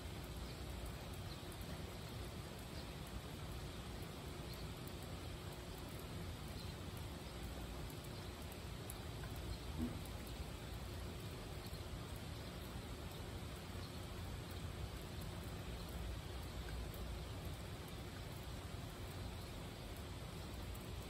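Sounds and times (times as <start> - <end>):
soft drop ticks: 0.0 - 21.0.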